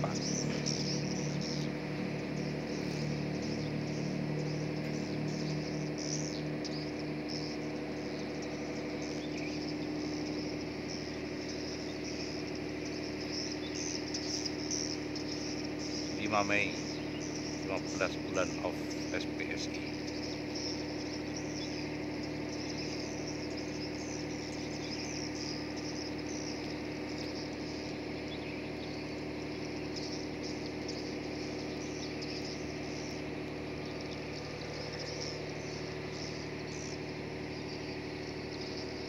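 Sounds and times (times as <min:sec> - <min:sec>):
low mechanical hum: 0:00.0 - 0:39.0
small birds chirping: 0:00.0 - 0:39.0.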